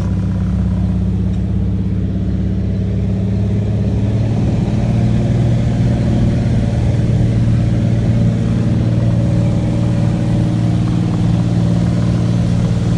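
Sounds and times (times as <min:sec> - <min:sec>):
plane engine and propeller drone: 0:00.0 - 0:12.9.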